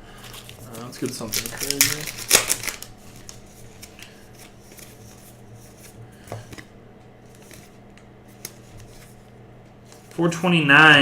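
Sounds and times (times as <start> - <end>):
steady low hum: 0.0 - 11.0
handling cards: 0.1 - 11.0.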